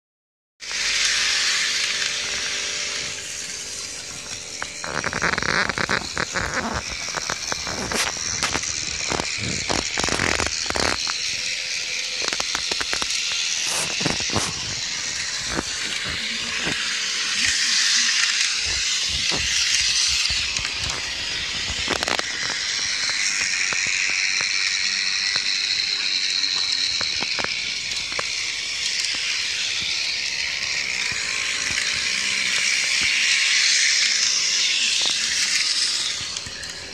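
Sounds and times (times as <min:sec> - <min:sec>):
model train motors whining: 0:00.6 - 0:36.9.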